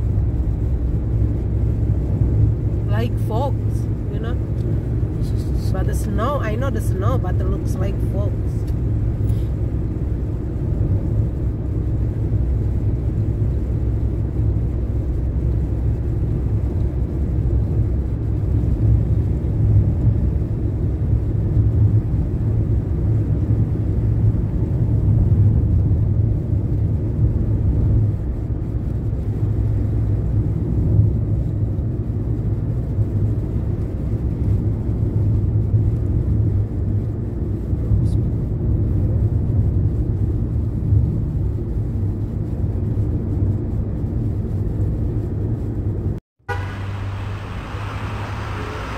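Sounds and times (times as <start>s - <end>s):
car road noise rumble: 0.0s - 48.9s.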